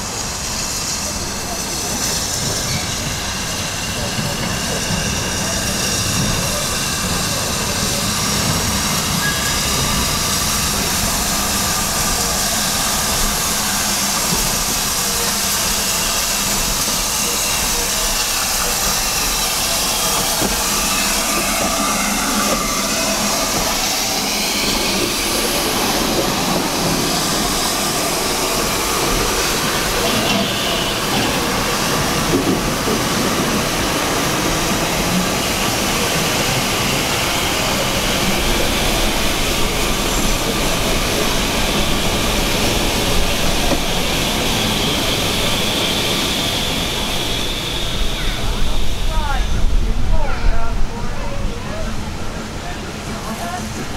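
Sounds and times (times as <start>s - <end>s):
steady hiss of steam: 0.0s - 53.9s
steam locomotive passing slowly: 0.0s - 53.9s.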